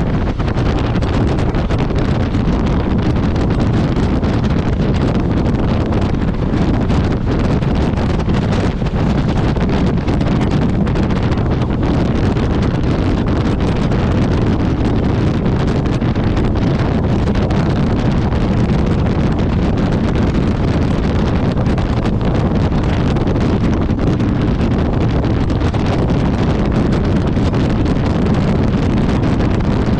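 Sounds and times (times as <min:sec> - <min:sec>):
road noise: 0:00.0 - 0:29.9
wind rushing over microphone: 0:00.0 - 0:29.9.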